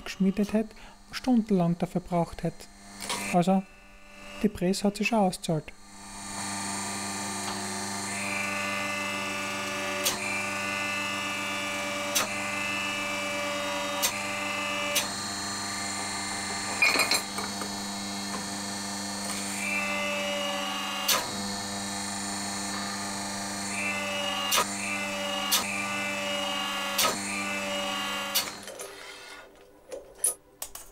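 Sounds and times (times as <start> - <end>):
hydraulic press pump hum: 0.0 - 4.6, 5.7 - 29.6.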